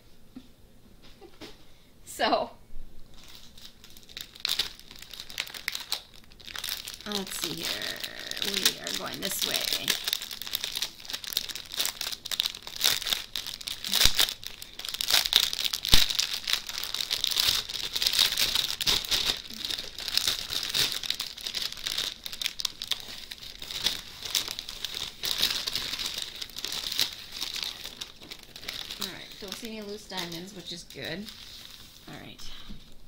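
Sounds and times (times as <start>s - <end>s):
plastic sleeve crinkling: 3.1s - 32.2s.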